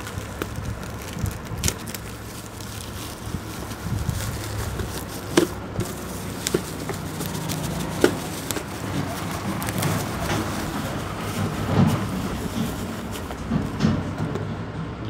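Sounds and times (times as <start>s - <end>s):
handling packaging: 0.0s - 14.4s.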